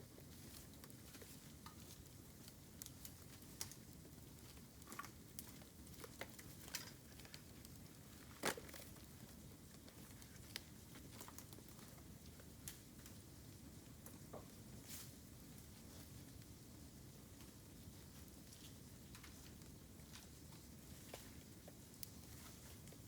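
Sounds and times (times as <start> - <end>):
bamboo crackling in campfire: 0.0 - 23.0.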